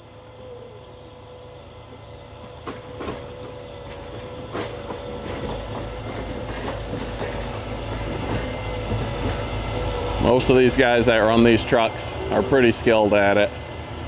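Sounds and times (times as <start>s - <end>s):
diesel engine running with whine: 0.0s - 14.0s.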